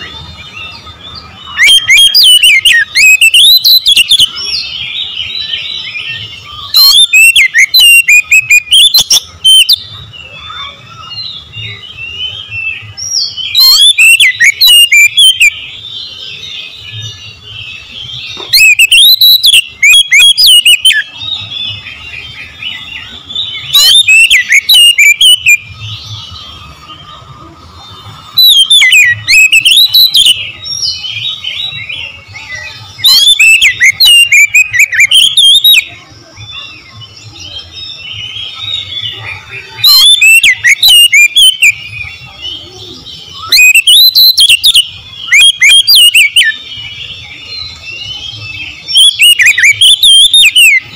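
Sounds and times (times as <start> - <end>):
bird singing varied phrases: 0.0 - 50.9
quieter bird chirping: 0.0 - 50.9.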